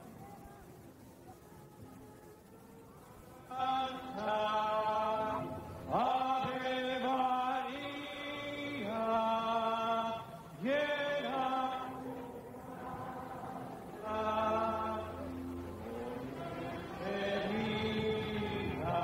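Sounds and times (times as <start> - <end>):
choir chanting in held notes: 0.0 - 19.0.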